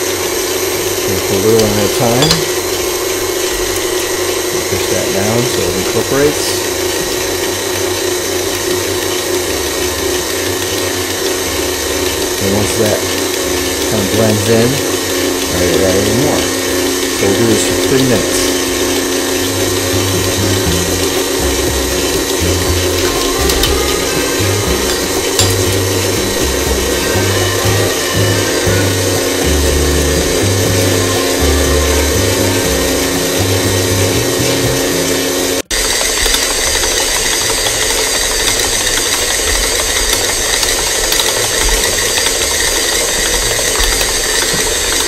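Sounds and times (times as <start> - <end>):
stand mixer kneading dough: 0.0 - 45.0.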